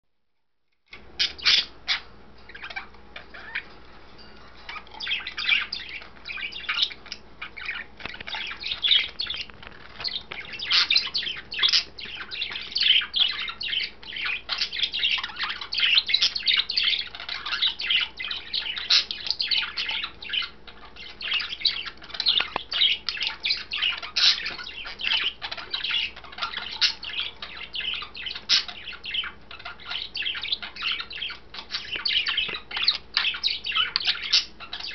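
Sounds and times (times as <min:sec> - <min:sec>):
budgerigar chattering and warbling: 0:01.2 - 0:03.7, 0:04.7 - 0:34.9.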